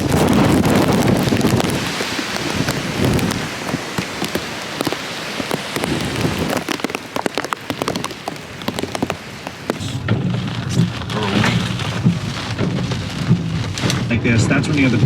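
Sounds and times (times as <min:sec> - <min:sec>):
heavy rain hiss: 0:00.0 - 0:15.0
raindrops striking hard surface: 0:00.0 - 0:15.0.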